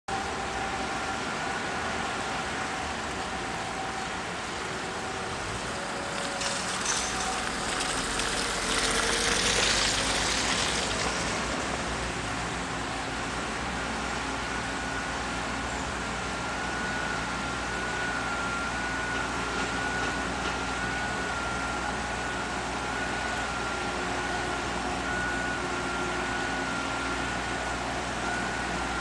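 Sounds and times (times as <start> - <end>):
distant engines and traffic: 0.1 - 29.0
faint steady whines: 0.1 - 29.0.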